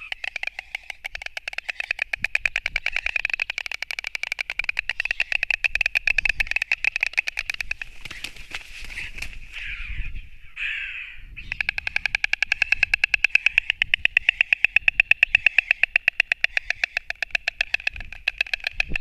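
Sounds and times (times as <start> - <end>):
stork bill clattering: 0.0 - 9.3, 11.5 - 19.0.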